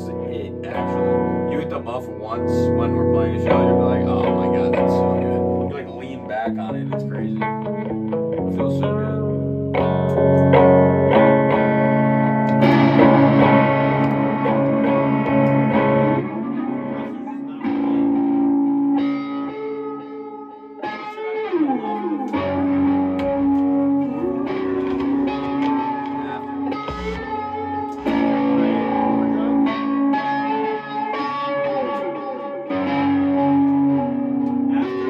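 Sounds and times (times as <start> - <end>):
electric guitar through effects: 0.0 - 35.0.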